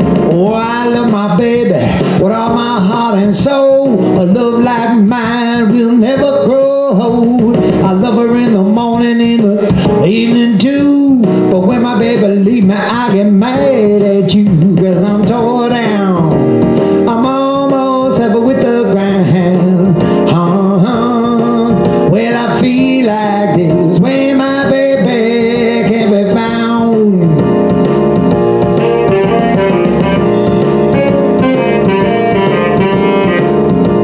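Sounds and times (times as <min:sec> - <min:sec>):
man singing blues: 0:00.0 - 0:27.7
blues backing track: 0:00.0 - 0:34.0.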